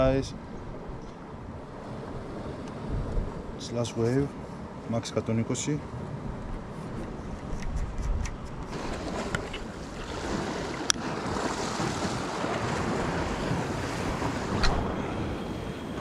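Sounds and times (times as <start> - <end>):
wind buffeting microphone: 0.0 - 4.9, 5.8 - 16.0
sea waves washing: 0.0 - 16.0.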